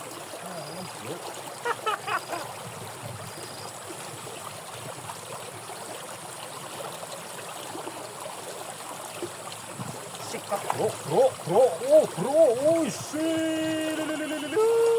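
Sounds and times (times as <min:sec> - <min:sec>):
water flowing through ditch: 0:00.0 - 0:14.9.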